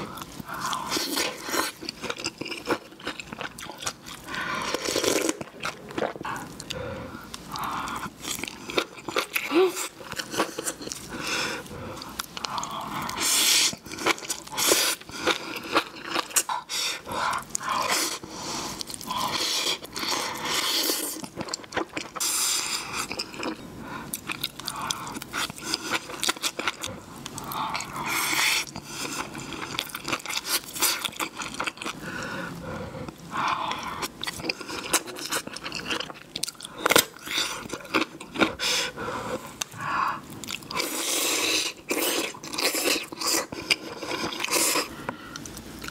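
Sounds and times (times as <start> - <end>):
person chewing: 0.0 - 32.1, 33.0 - 45.9.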